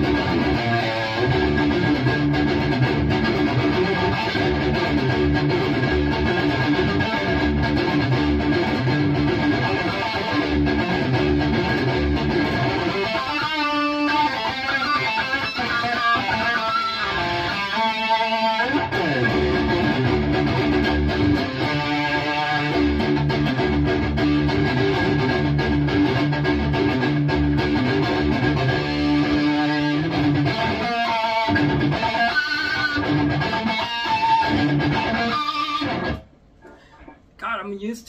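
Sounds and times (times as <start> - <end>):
distorted electric guitar lead: 0.0 - 36.9.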